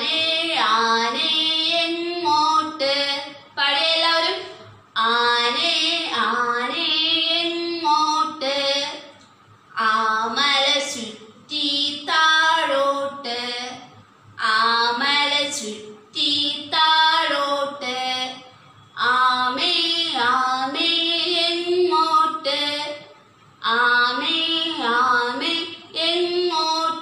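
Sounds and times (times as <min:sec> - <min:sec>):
woman singing unaccompanied: 0:00.0 - 0:27.0.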